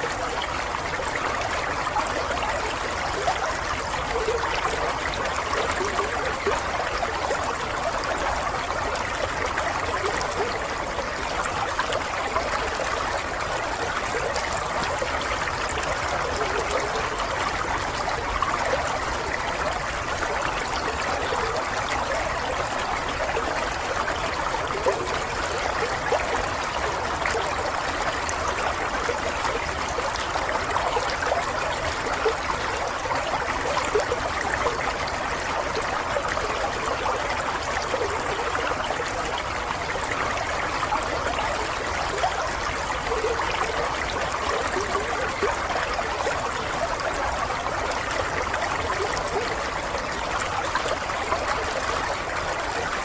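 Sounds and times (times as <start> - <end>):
stream babbling: 0.0 - 53.0.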